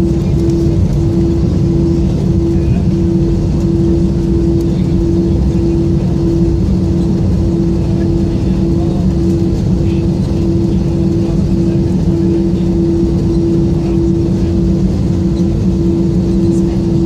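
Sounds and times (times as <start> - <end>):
aircraft cabin engine rumble: 0.0 - 17.0
droning hum: 0.0 - 17.0.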